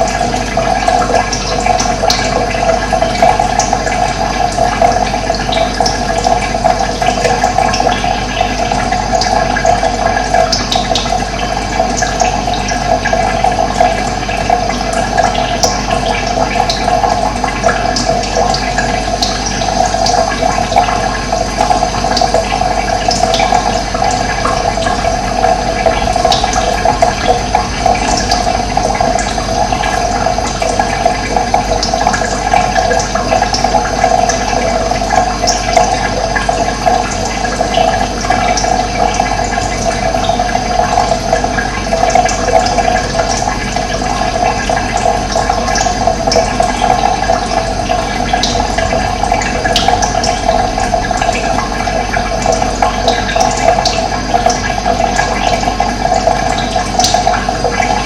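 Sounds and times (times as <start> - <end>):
running water flowing: 0.0 - 58.0.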